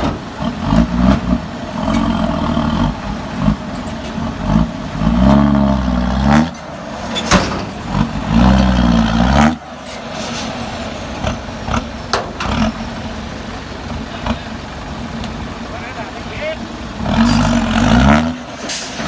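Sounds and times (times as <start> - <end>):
diesel truck engine revving: 0.0 - 19.0.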